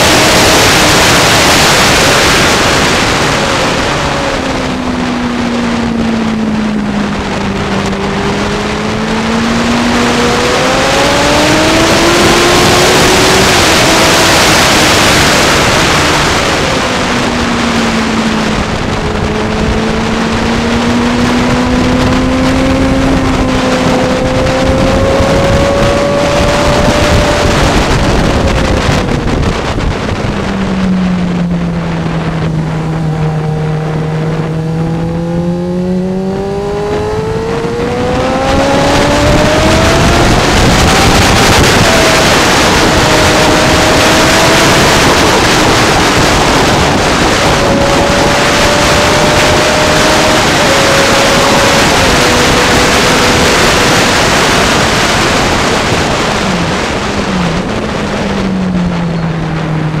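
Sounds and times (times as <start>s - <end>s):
throttle blips downshifting: 0.0s - 54.2s
motorcycle engine revving: 0.0s - 60.0s
wind rushing over microphone: 0.0s - 60.0s.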